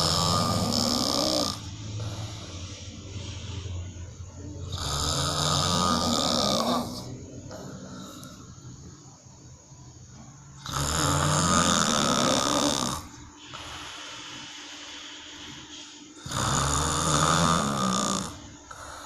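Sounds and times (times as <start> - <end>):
person snoring: 0.0 - 8.8, 10.6 - 19.0
quiet breathing: 0.0 - 19.0.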